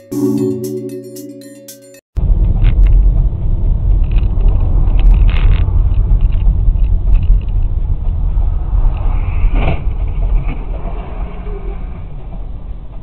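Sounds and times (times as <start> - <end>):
road and engine rumble: 2.2 - 13.0.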